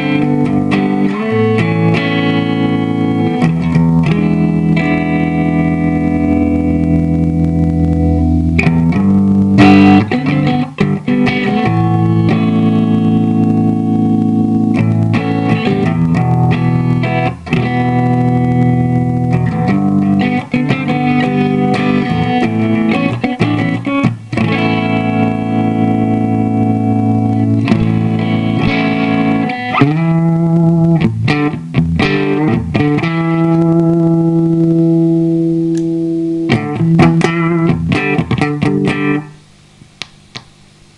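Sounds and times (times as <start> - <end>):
electric guitar chords and notes: 0.0 - 39.6.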